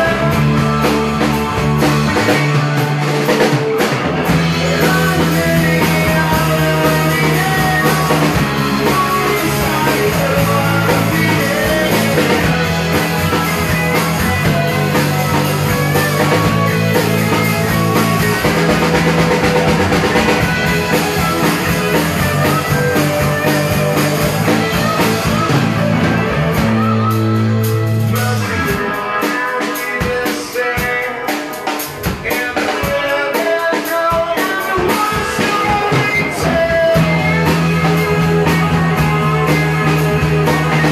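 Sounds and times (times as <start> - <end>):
bass guitar: 0.0 - 40.9
drum kit: 0.0 - 40.9
electric guitars: 0.0 - 40.9.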